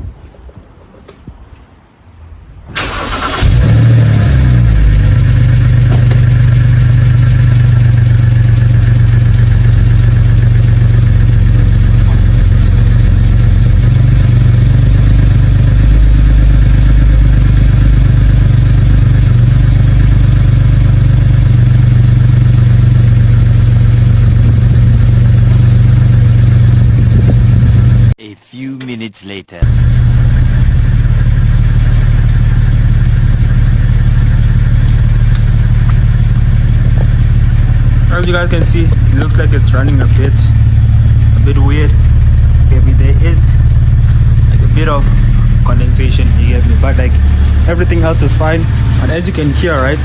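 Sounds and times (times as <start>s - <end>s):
car engine idling: 2.8s - 28.2s, 29.6s - 50.0s.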